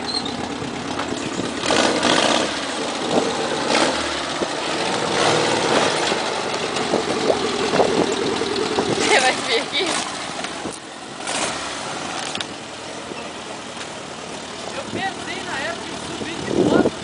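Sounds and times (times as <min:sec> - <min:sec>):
buggy engine running: 0:00.0 - 0:17.0.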